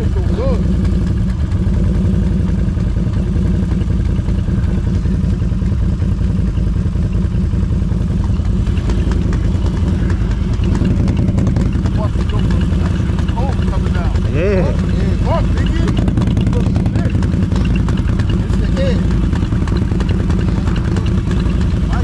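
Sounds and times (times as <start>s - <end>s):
atv engine running steadily: 0.0s - 22.0s.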